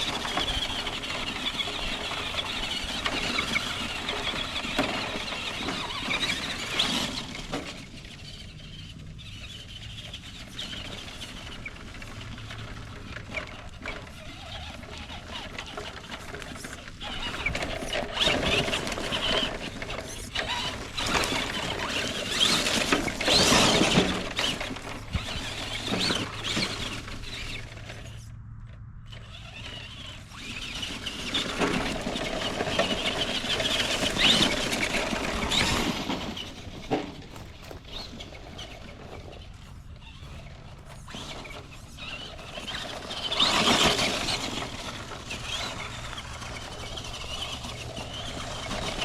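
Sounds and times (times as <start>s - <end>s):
tyres scrabbling through leaves: 0.0s - 28.3s, 29.2s - 49.0s
electric motor and gears whirring: 0.0s - 49.0s.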